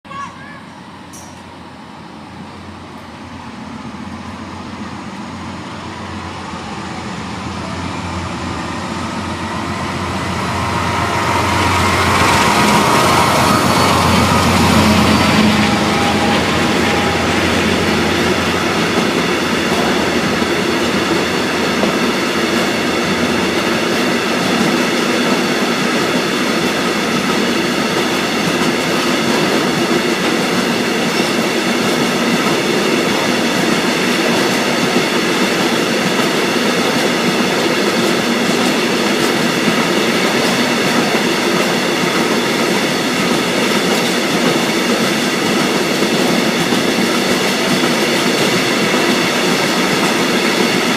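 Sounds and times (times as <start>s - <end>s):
freight train wheels on rails: 0.2s - 50.9s.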